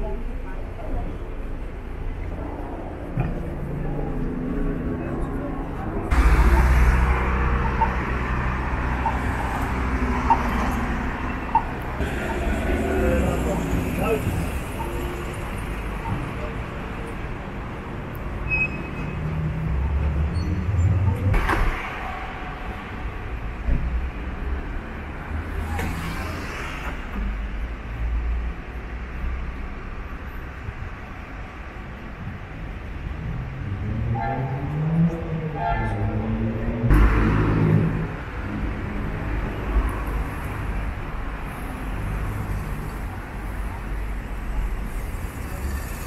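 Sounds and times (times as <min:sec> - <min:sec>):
cars driving past: 0:02.8 - 0:29.1, 0:32.9 - 0:46.0.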